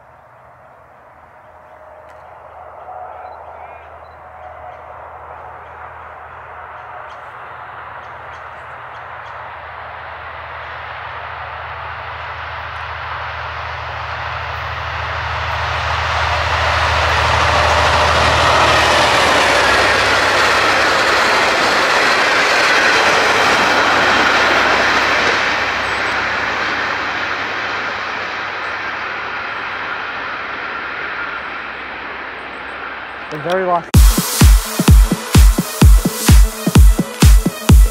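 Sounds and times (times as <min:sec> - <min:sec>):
diesel locomotive engine drone: 0:00.0 - 0:37.9
train wheels on rails: 0:00.0 - 0:37.9.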